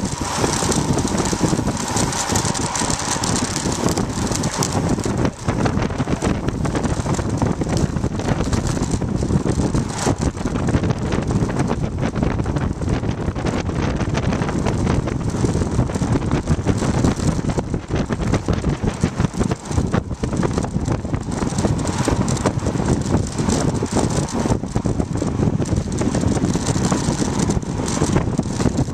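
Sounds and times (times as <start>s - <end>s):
bike tyres rumbling on asphalt: 0.0s - 28.9s
wind buffeting microphone: 0.0s - 28.9s.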